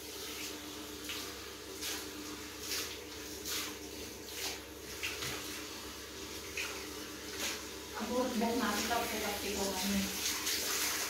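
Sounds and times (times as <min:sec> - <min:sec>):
hands scrubbing wet fur: 0:00.0 - 0:11.0.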